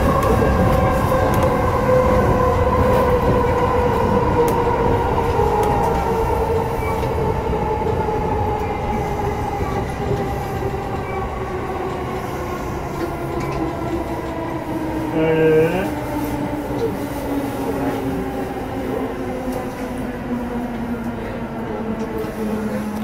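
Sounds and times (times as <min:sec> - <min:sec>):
train wheels running on rail: 0:00.0 - 0:23.0.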